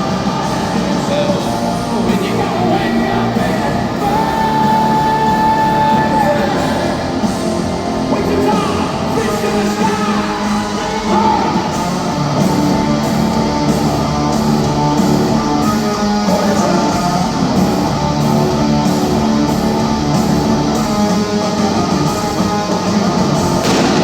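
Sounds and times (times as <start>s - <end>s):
distorted electric guitars: 0.0s - 24.0s
drums: 0.0s - 24.0s.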